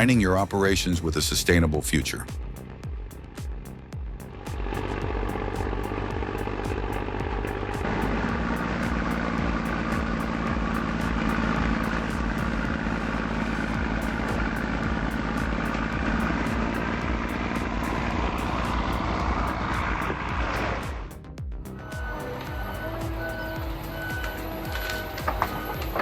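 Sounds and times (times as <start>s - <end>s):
heavy machine engine running: 3.9s - 21.1s, 21.7s - 26.0s.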